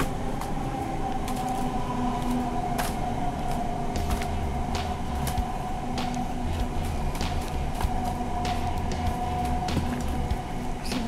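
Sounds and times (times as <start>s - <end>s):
train running drone: 0.0s - 11.0s.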